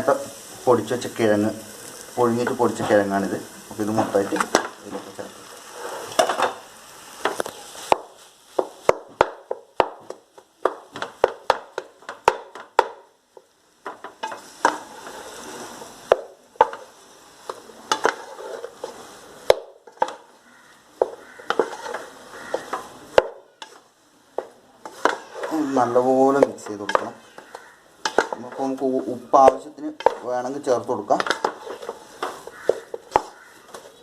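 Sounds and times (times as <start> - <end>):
utensil scraping in a pan: 0.0 - 8.8, 13.9 - 34.0
food sizzling: 0.0 - 34.0.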